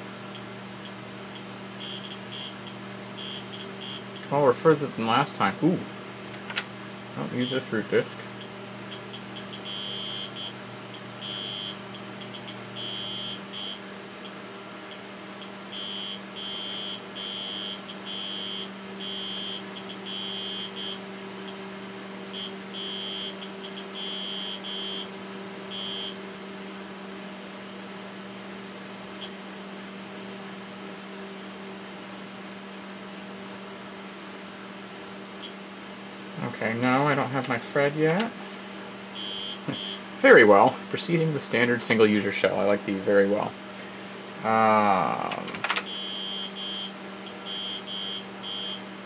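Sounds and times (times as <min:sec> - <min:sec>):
floppy drive buzzing: 0:00.0 - 0:26.4, 0:33.5 - 0:49.0
low machine hum: 0:00.0 - 0:49.0.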